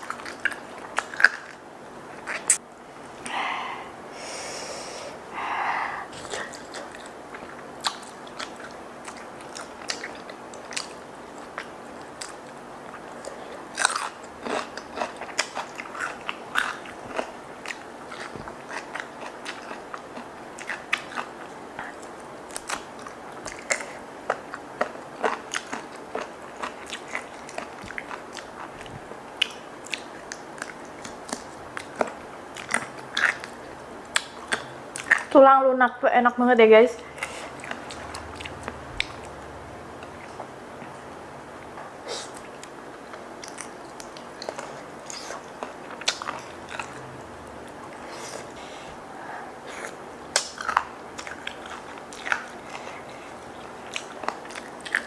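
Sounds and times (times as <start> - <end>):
person chewing crunchy food: 0.0 - 2.6, 5.9 - 35.3, 37.1 - 49.0, 49.6 - 55.0.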